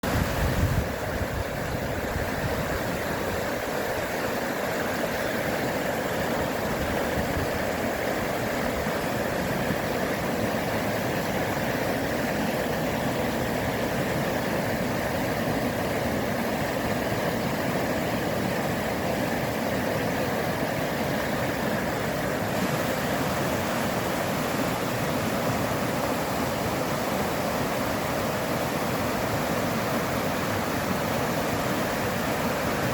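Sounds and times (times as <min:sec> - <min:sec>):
water rushing over rocks: 0:00.0 - 0:32.9.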